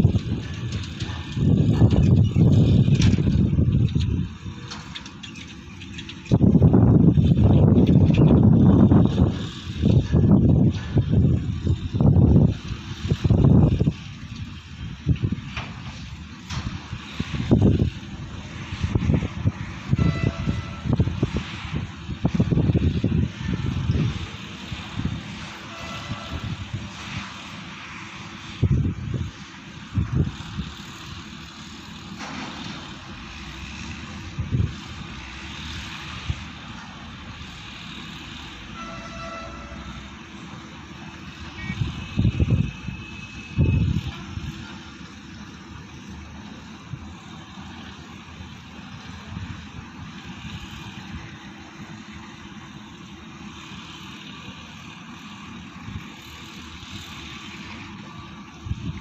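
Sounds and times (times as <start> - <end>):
distant excavator diesel engine: 0.0 - 59.0.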